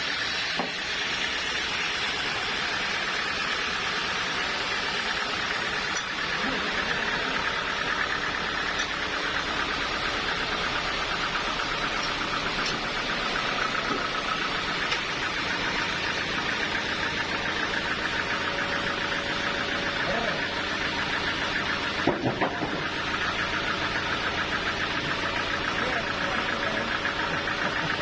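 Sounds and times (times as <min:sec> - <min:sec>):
sawmill machinery droning: 0:00.0 - 0:28.0.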